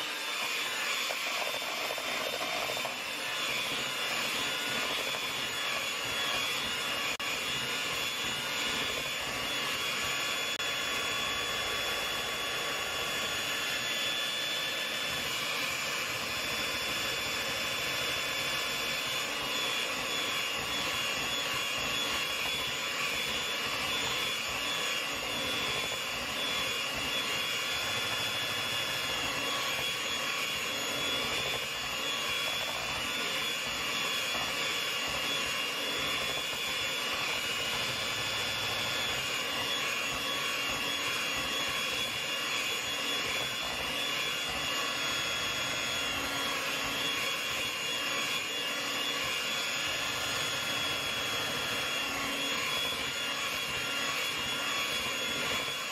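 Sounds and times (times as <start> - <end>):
electric hand mixer whining: 0.0 - 55.9.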